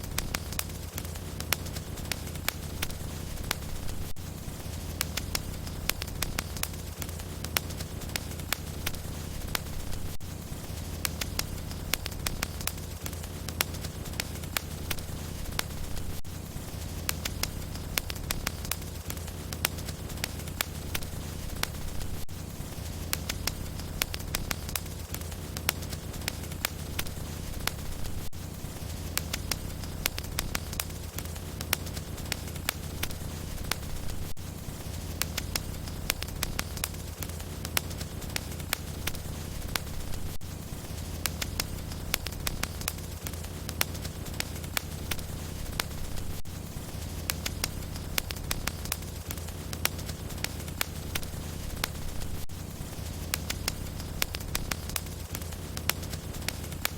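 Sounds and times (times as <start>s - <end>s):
low rumble of flames: 0.0s - 56.9s
wood fire crackling and popping: 0.0s - 56.9s.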